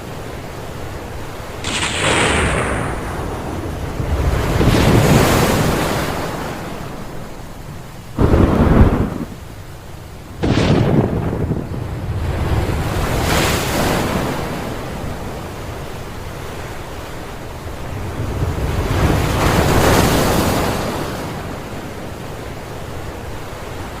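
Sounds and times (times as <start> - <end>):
heavy waves breaking: 0.0 - 24.0
steady wind: 0.0 - 24.0.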